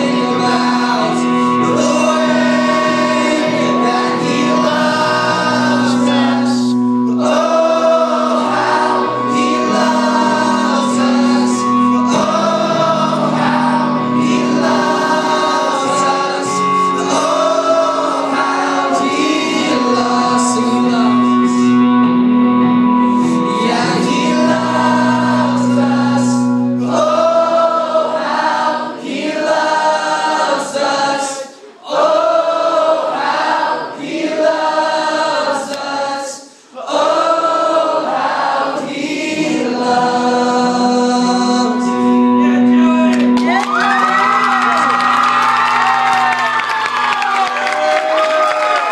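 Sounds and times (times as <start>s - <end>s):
voices singing worship song: 0.0s - 48.9s.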